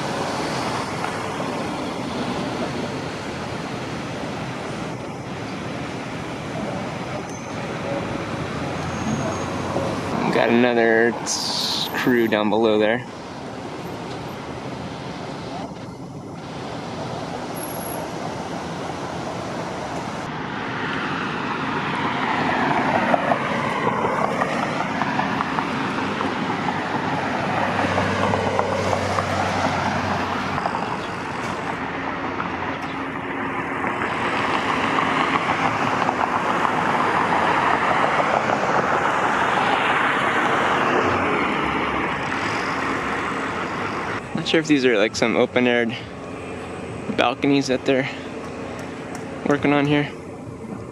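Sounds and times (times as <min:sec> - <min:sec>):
vehicles passing: 0:00.0 - 0:50.9.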